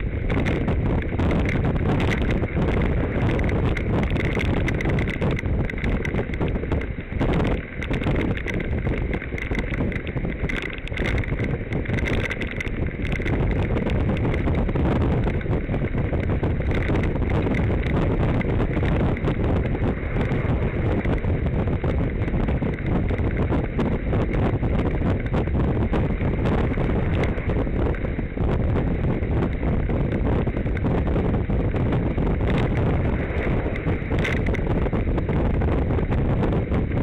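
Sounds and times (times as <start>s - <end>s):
bicycle knocks and rattles: 0.0s - 37.0s
wind buffeting microphone: 0.0s - 37.0s.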